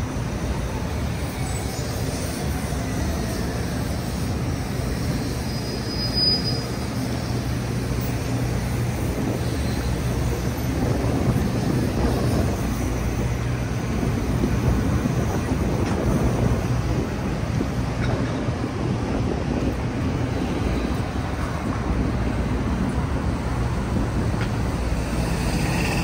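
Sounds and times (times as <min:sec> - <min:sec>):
bus and cars running: 0:00.0 - 0:26.0.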